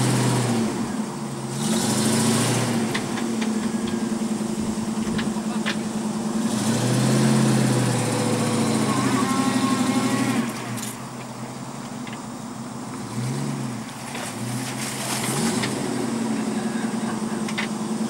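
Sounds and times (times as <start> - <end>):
car engine revving under load: 0.0 - 18.0.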